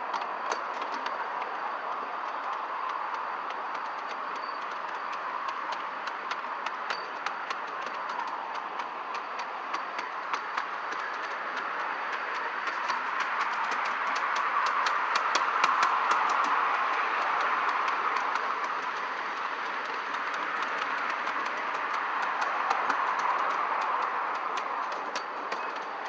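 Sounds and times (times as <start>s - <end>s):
wheels clicking over rails: 0.0s - 26.0s
steam train rushing: 3.0s - 26.0s.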